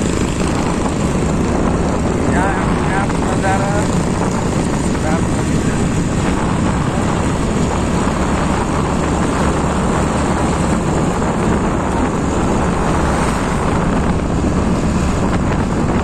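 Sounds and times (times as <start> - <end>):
rushing wind: 0.0 - 16.0
tyres on road: 0.0 - 16.0
vehicle engine: 0.0 - 16.0.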